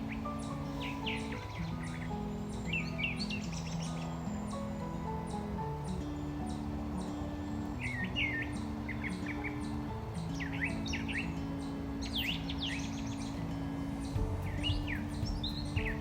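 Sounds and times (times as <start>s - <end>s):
small birds chirping: 0.0s - 16.0s
soft acoustic background music: 0.0s - 16.0s.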